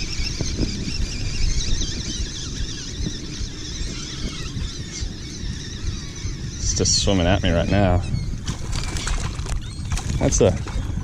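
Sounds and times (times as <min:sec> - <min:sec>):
seabirds calling: 0:00.0 - 0:11.0
wind buffeting microphone: 0:00.0 - 0:11.0.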